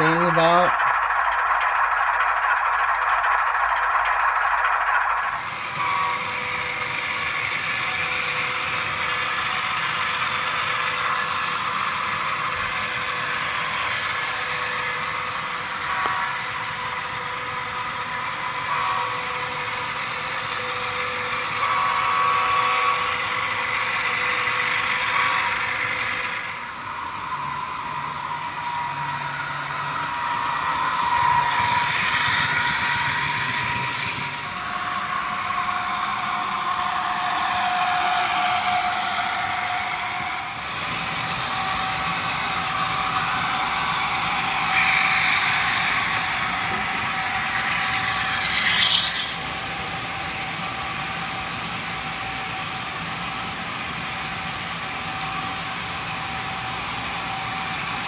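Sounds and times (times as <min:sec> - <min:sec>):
diesel locomotive engine sound: 0:00.0 - 0:58.0.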